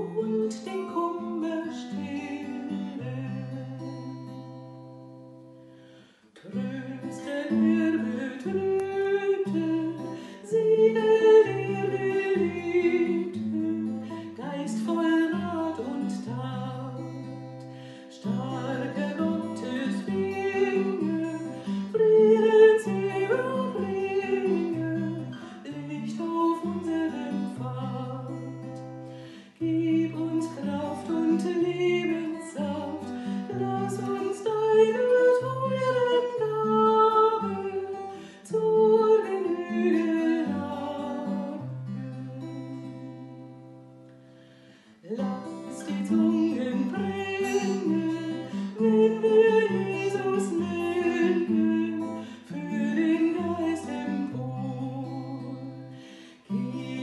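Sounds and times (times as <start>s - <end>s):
woman singing: 0.0s - 5.4s, 6.4s - 43.8s, 45.0s - 57.0s
acoustic guitar: 0.0s - 57.0s.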